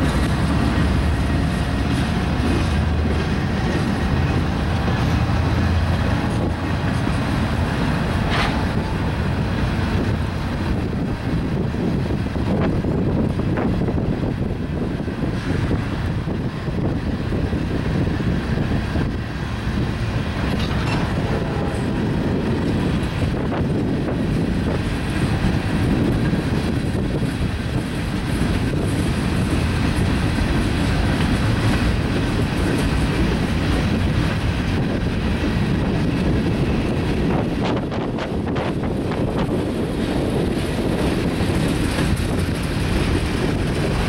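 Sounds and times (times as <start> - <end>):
freight train wheels rumbling: 0.0 - 44.0
wheels clicking on rail joints: 0.0 - 44.0.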